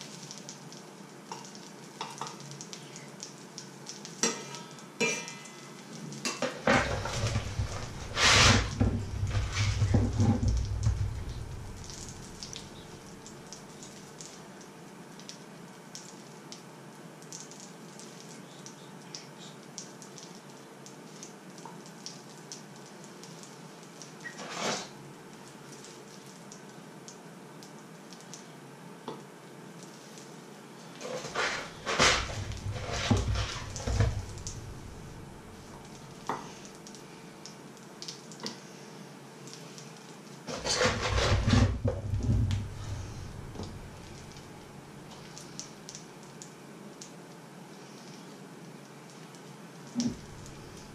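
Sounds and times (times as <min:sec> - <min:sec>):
faint crackle from pan: 0:00.0 - 0:50.9.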